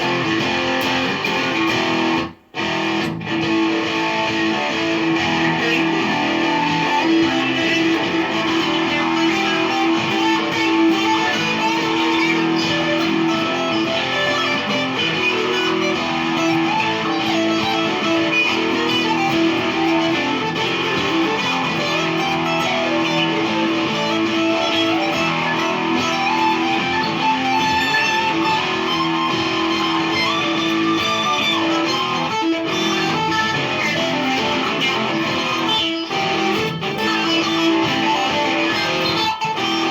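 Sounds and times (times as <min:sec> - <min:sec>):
electric guitar riff with effects: 0:00.0 - 0:39.9.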